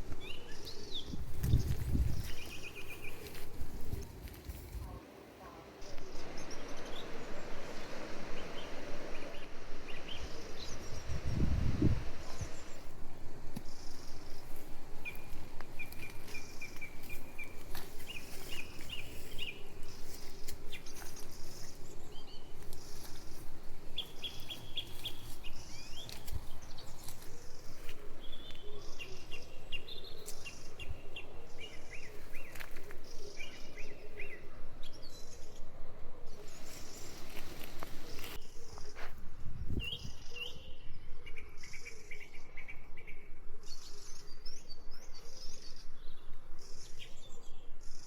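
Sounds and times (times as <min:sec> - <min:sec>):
pulsing low background noise: 0:00.0 - 0:48.0
songbirds chirping: 0:00.0 - 0:48.0.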